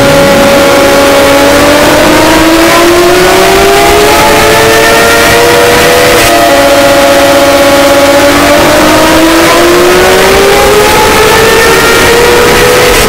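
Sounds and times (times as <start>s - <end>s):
distorted emergency alert alarm: 0.0s - 13.0s
rising alarm tones: 0.0s - 13.0s.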